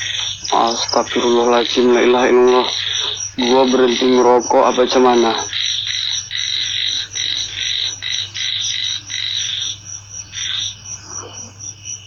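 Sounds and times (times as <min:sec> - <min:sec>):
fast steady chirping: 0:00.0 - 0:12.0
loud pulsing animal calls: 0:00.0 - 0:12.0.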